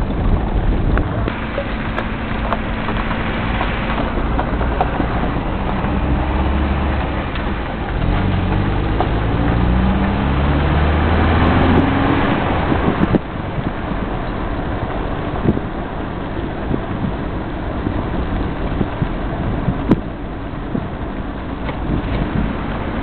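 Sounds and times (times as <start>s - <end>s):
car engine accelerating: 0.0s - 23.0s
tyre and wind noise: 0.0s - 23.0s.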